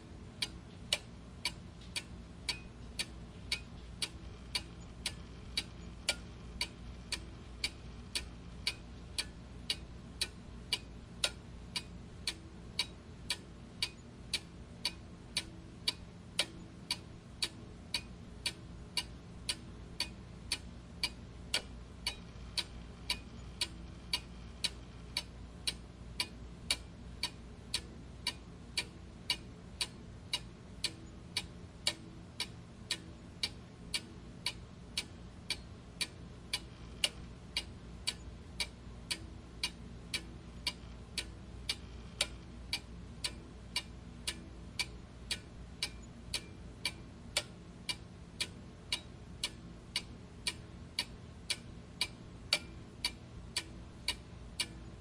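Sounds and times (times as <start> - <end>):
faint low hum: 0.0 - 55.0
mechanical clock ticking: 0.2 - 55.0.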